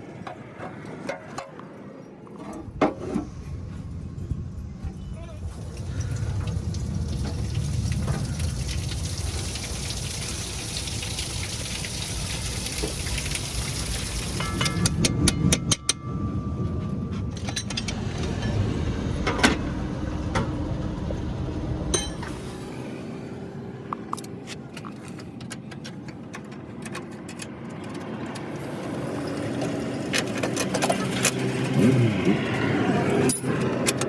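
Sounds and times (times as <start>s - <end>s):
low vehicle rumble: 2.5s - 34.0s.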